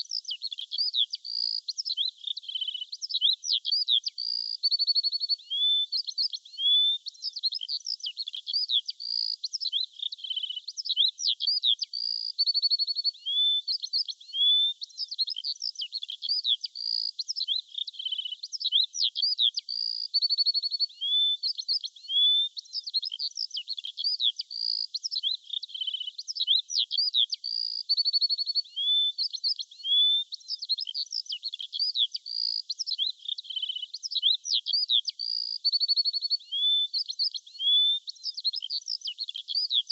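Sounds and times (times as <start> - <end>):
birdsong chirps and trills: 0.0 - 39.9.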